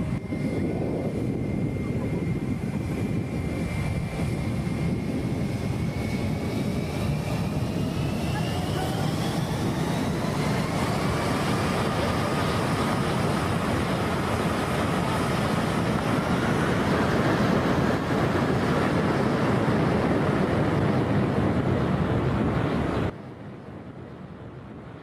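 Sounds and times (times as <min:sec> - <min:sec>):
jet engines roaring: 0:00.0 - 0:25.0
wind on microphone: 0:00.0 - 0:25.0.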